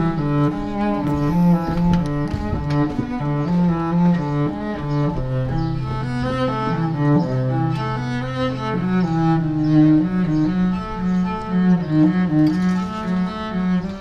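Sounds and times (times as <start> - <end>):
solo cello melody: 0.0 - 14.0.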